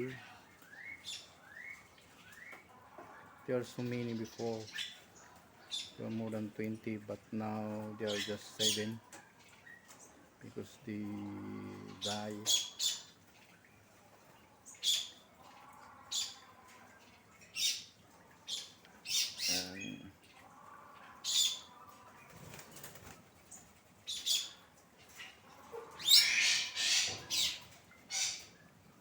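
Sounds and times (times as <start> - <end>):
birds making sharp high calls: 0.0 - 6.5, 7.8 - 10.2, 11.8 - 13.7, 14.6 - 28.7.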